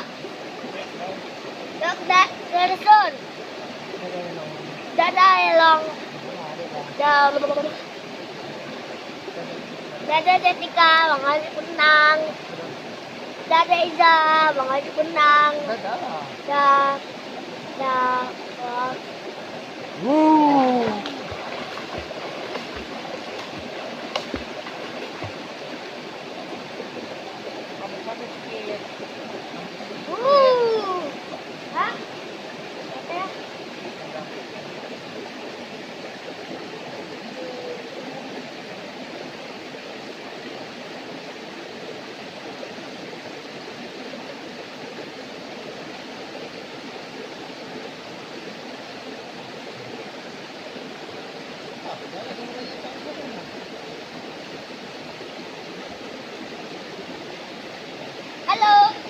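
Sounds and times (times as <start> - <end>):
waterfall water rushing: 0.0 - 59.0.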